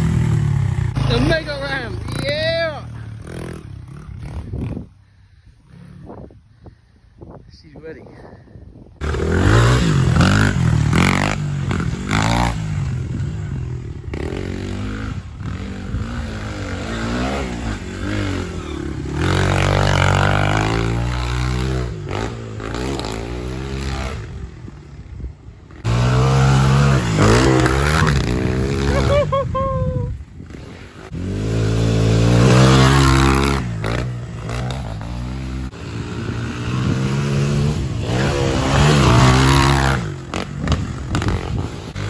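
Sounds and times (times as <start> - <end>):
dirt bike engine revving: 0.0 - 4.9, 9.0 - 24.8, 25.7 - 29.4, 30.4 - 42.0.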